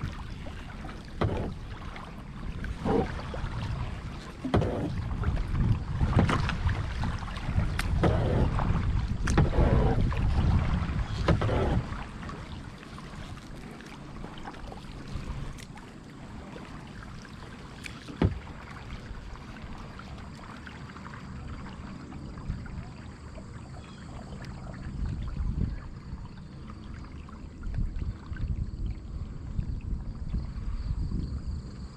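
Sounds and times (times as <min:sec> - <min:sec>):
wind rumble on microphone: 0:00.0 - 0:17.0, 0:21.3 - 0:31.9
paddle strokes splashing in water: 0:00.0 - 0:31.9.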